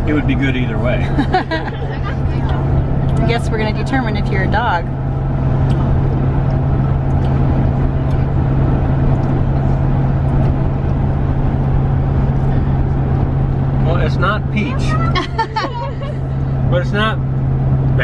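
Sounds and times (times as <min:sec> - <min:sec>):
van engine and road noise: 0:00.0 - 0:18.0.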